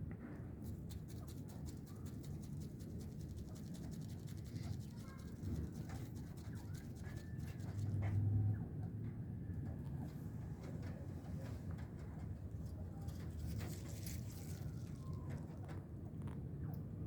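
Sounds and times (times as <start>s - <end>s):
bird chirping softly: 1.1s - 17.0s.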